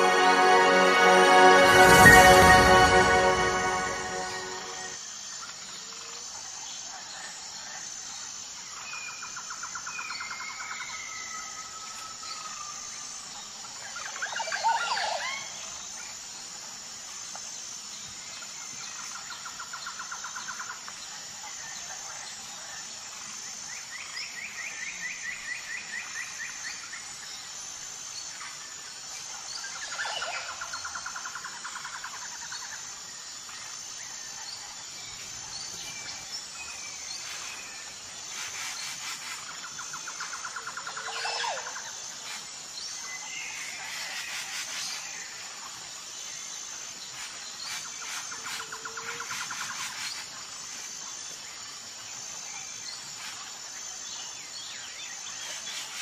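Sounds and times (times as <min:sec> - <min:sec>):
pulsing insect chirr: 0:00.0 - 0:56.0.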